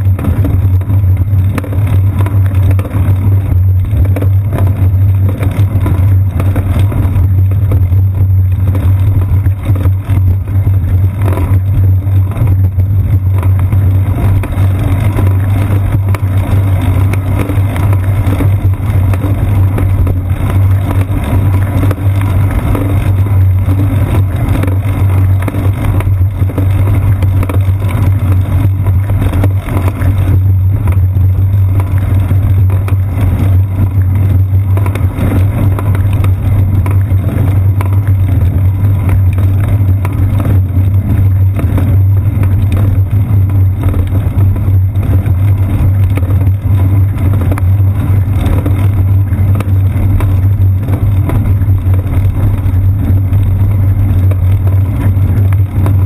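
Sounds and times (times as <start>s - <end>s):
tyres rumbling on asphalt: 0.0s - 56.0s.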